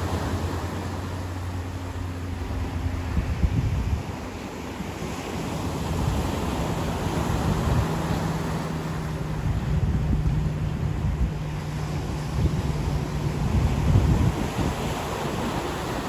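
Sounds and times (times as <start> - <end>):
ocean surf on a beach: 0.0 - 16.0
steady low hum: 0.0 - 16.0
wind buffeting microphone: 0.0 - 16.0.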